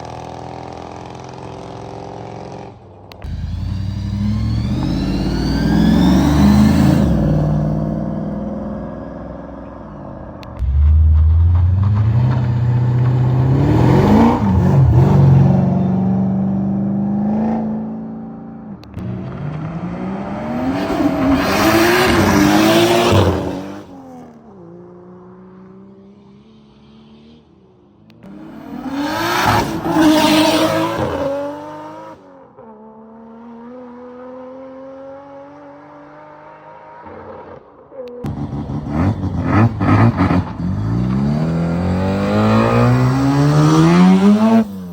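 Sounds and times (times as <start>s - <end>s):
car engines revving and accelerating: 0.0s - 44.9s.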